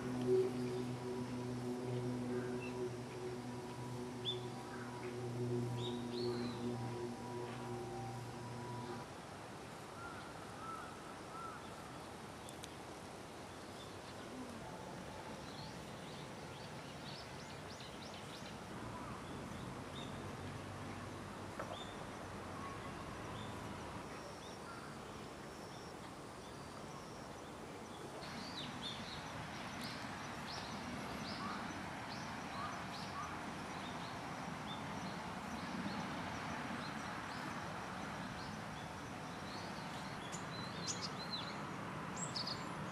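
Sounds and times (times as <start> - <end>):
steady background hiss: 0.0 - 42.9.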